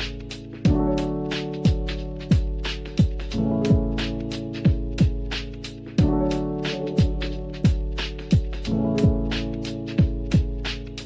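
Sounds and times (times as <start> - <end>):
electronic music with beat: 0.0 - 11.0.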